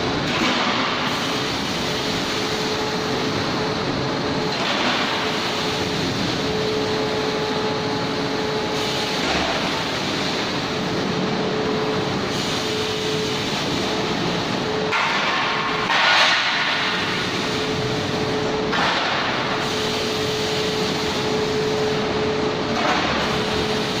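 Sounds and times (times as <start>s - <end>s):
food-processing machines running: 0.0s - 24.0s.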